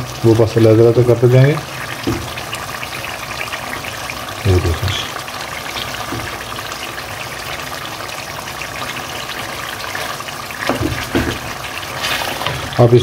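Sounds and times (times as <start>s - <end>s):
gravy simmering and sizzling: 0.0s - 13.0s.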